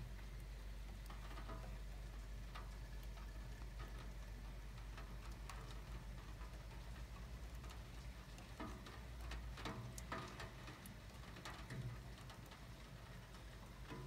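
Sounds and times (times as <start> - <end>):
raindrops ticking: 0.0 - 14.0.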